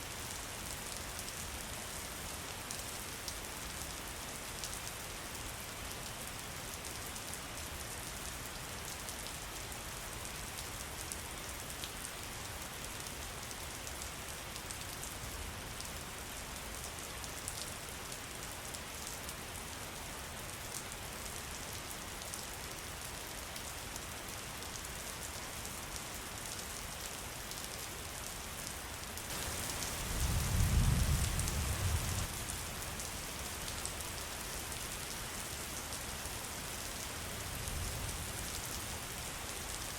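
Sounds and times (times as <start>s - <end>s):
steady rain with drop ticks: 0.0s - 39.9s.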